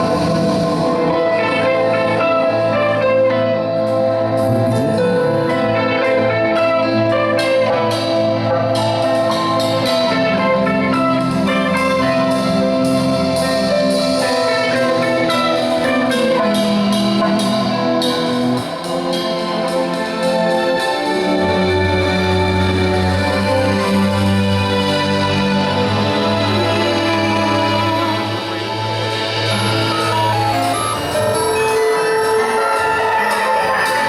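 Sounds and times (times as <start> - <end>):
instrumental live band music: 0.0 - 34.0.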